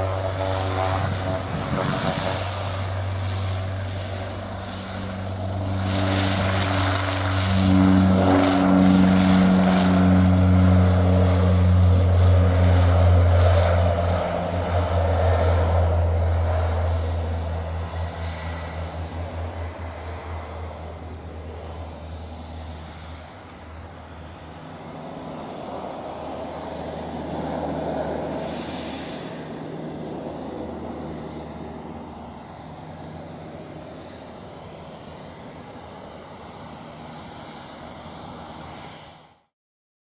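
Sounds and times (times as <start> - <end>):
aircraft engine rushing: 0.0 - 39.5
low hum: 0.0 - 39.5.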